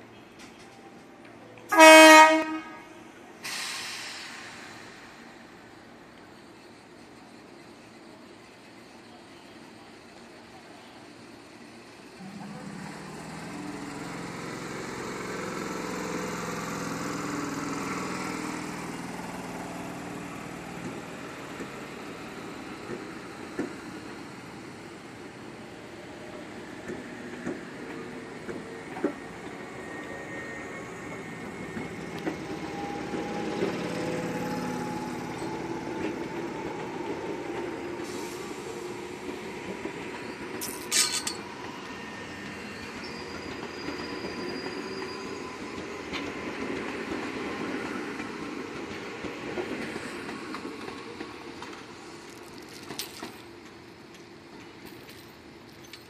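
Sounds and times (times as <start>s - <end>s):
train traction motors humming: 3.6s - 56.0s
wheels rumbling on rails: 7.2s - 56.0s.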